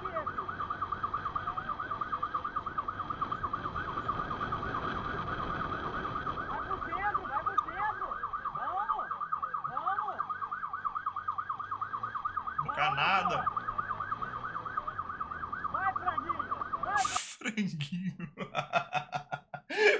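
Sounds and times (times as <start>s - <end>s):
slow wailing siren tone: 0.0s - 17.2s
police siren yelping: 0.0s - 17.4s, 18.4s - 19.9s.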